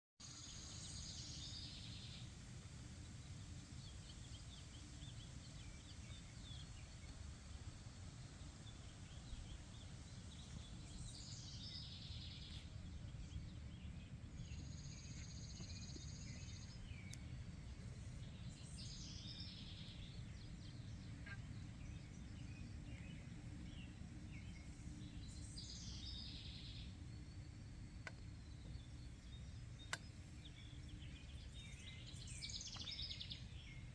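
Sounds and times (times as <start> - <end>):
songbird singing: 0.2 - 33.9
steady low rumble: 0.6 - 33.9.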